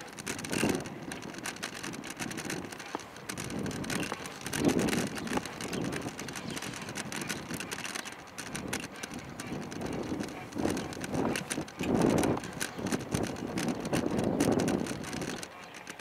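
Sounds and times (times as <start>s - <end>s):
kick bike wheels rolling on asphalt: 0.0s - 16.0s
small rattling clicks: 0.0s - 16.0s
wind rumbling on microphone: 0.0s - 16.0s.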